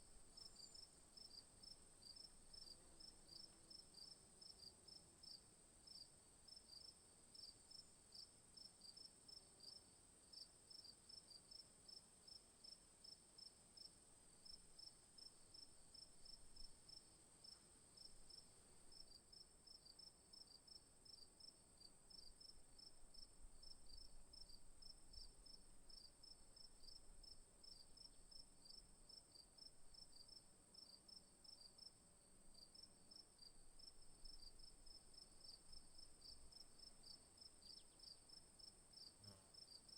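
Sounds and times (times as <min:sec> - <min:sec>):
insect chirps: 0:00.0 - 0:39.9
insect drone: 0:00.2 - 0:39.9.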